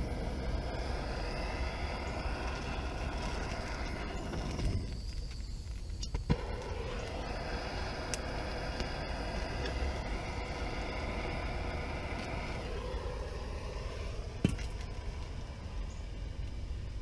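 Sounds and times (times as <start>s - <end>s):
propane torch hissing: 0.0s - 17.0s.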